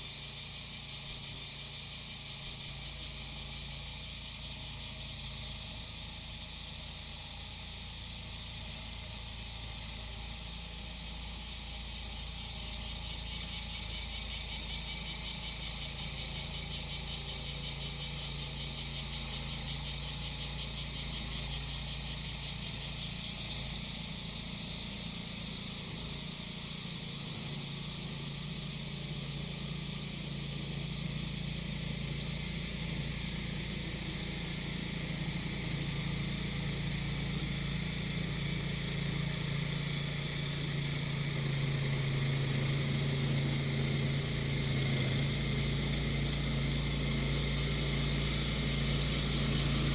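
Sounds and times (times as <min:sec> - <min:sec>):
cicadas calling: 0:00.0 - 0:49.9
small engine of grass cutter: 0:00.0 - 0:49.9.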